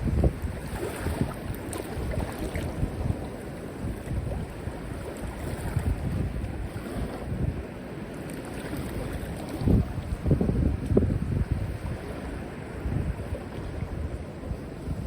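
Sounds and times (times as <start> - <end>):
sea waves washing: 0.0 - 15.0
wind gusting on microphone: 0.0 - 15.0.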